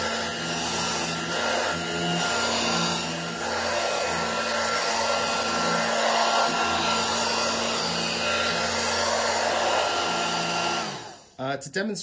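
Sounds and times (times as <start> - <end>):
hand vacuum running: 0.0 - 11.4.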